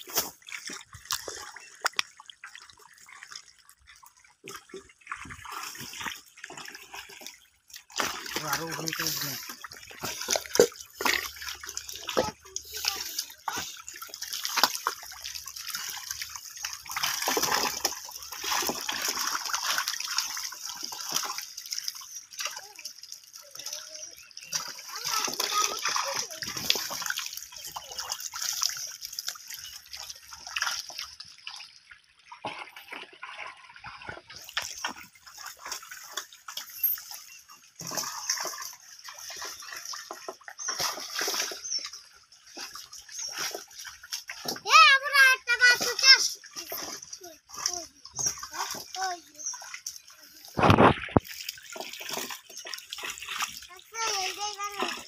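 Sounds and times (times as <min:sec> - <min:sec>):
muddy water splashing: 0:00.0 - 0:55.0.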